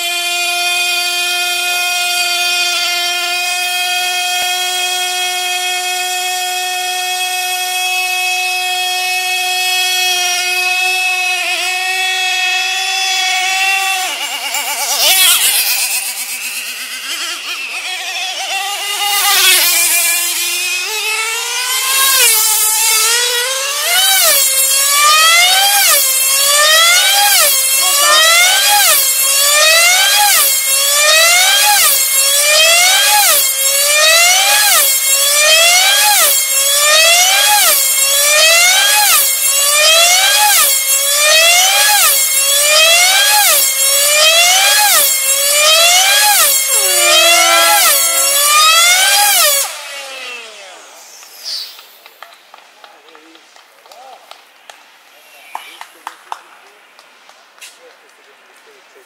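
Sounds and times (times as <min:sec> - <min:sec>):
model aircraft engine at high pitch: 0:00.0 - 0:53.4, 0:55.1 - 0:57.0.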